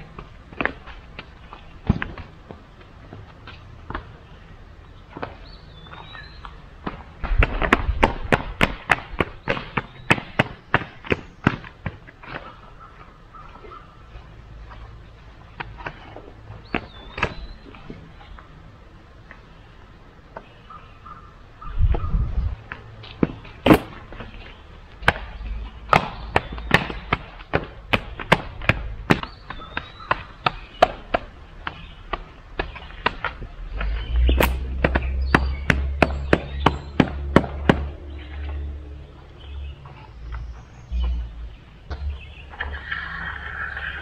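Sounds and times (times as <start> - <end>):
rubber mats slapping wet concrete: 0.0 - 18.6, 22.6 - 44.0.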